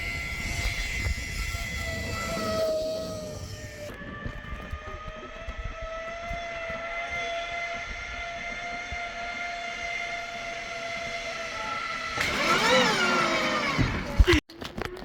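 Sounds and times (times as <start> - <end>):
wind on microphone: 0.0 - 14.4
zip line trolley whining on cable: 0.0 - 14.4.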